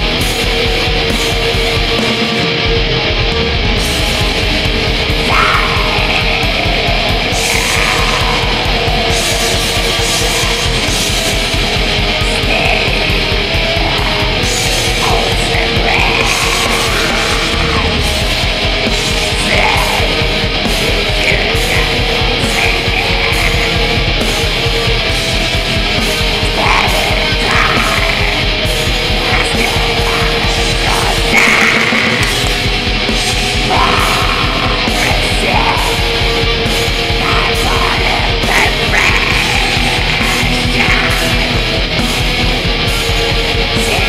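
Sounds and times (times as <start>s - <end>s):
distorted electric guitar: 0.0s - 44.0s
fast drumming: 0.0s - 44.0s.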